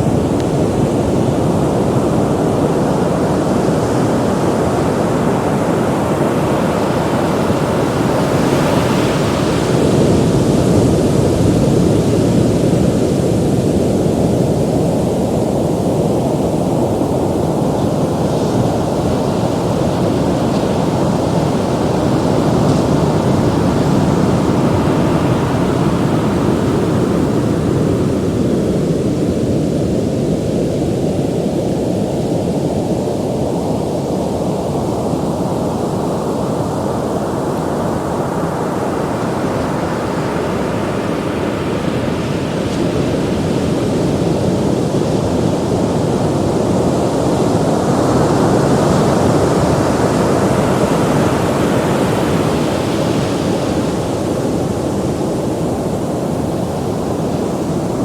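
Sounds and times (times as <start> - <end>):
ocean waves breaking: 0.0 - 30.1, 35.6 - 58.0.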